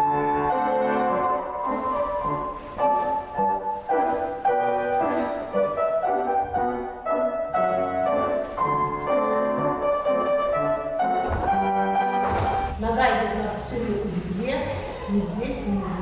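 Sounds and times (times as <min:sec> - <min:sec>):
piano playing dance tune: 0:00.0 - 0:16.0.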